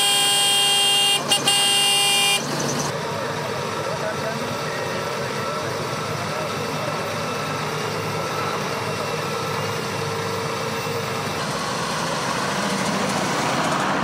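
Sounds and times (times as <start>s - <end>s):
tractor diesel engines running: 0.0s - 14.0s.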